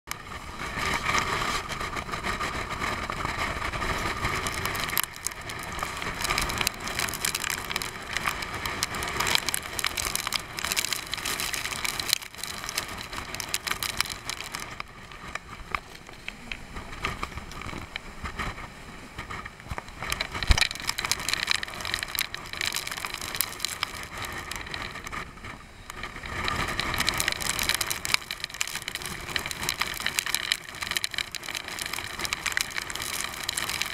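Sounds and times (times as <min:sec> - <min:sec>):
wind and sea rushing: 0:00.2 - 0:33.9.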